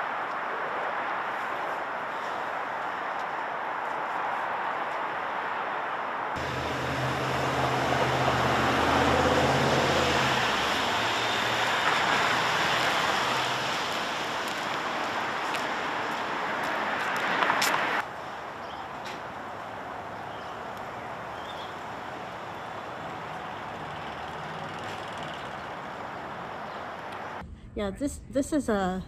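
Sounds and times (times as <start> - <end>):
vehicle passing: 0.0 - 27.4
steady traffic noise: 0.0 - 29.0.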